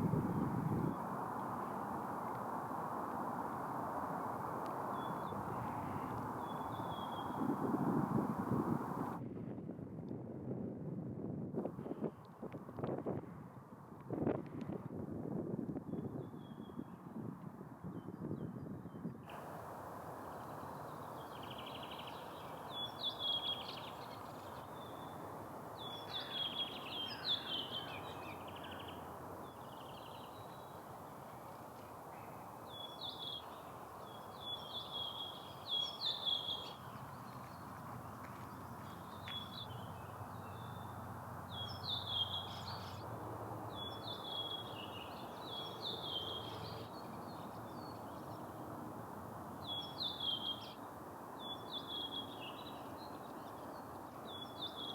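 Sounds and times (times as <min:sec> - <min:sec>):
songbirds singing: 0:00.1 - 0:09.0, 0:17.9 - 0:48.8, 0:49.5 - 0:54.9.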